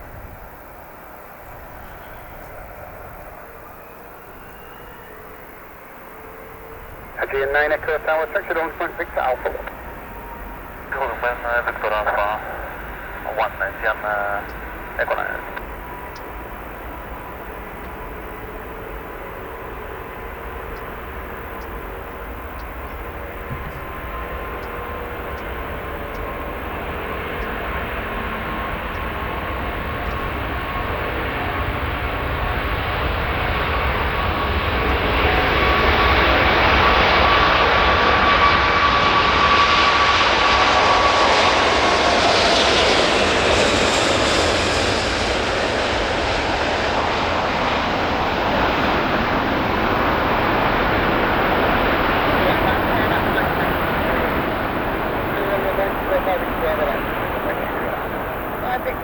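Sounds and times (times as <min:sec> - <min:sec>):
jet engines at take-off power: 0:00.0 - 0:59.0.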